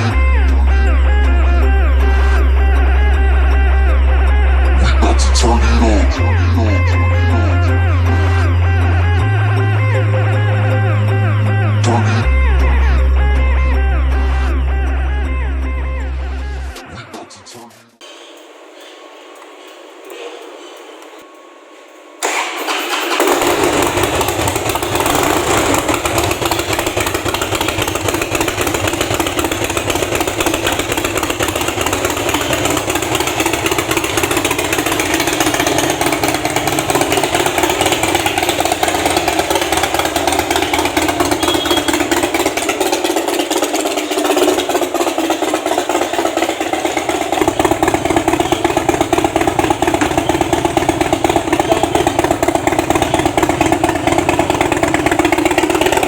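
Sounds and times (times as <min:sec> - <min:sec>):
motorcycle engine running: 0:00.0 - 0:16.7, 0:18.0 - 0:56.0.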